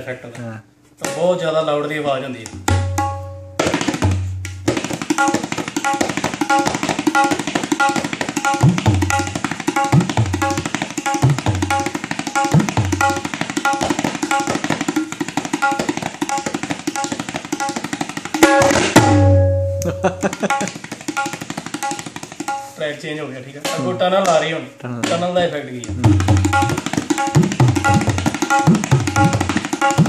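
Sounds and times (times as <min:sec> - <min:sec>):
tabla playing fast rhythm: 0:02.4 - 0:22.7, 0:23.6 - 0:30.0.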